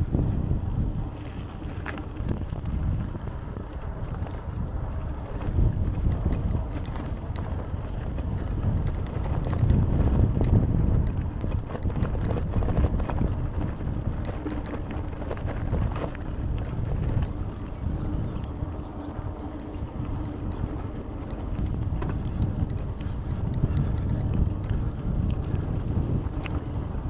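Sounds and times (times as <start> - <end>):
light clicks and rattles: 0.0 - 26.8
wind buffeting microphone: 0.0 - 27.0.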